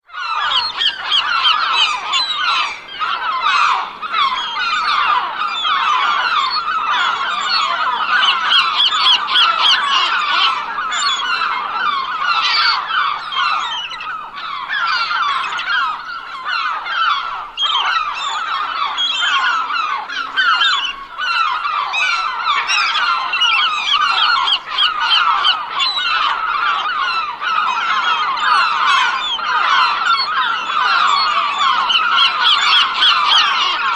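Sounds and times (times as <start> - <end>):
gulls squawking: 0.1 - 33.9.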